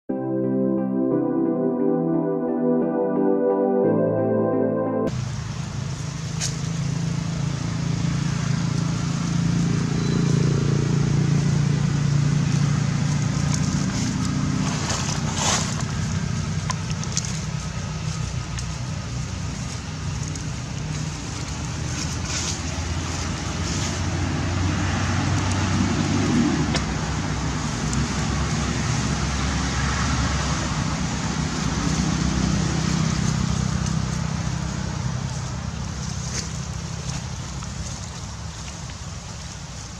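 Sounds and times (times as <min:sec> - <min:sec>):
low outdoor rumble: 0:05.1 - 0:39.9.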